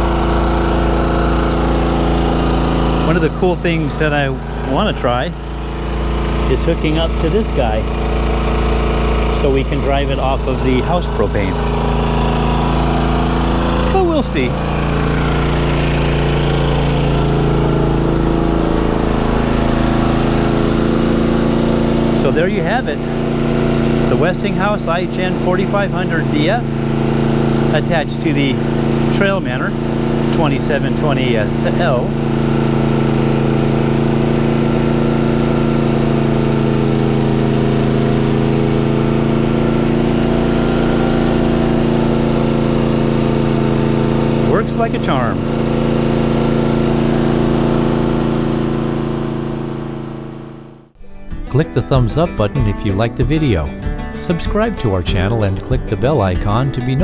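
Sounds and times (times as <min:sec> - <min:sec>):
generator running: 0:00.0 - 0:57.0.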